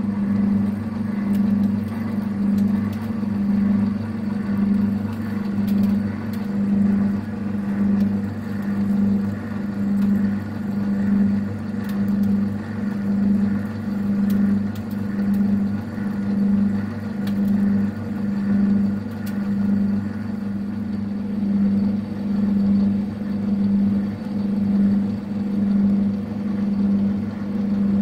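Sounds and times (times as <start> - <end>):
lathe humming: 0.0 - 28.0.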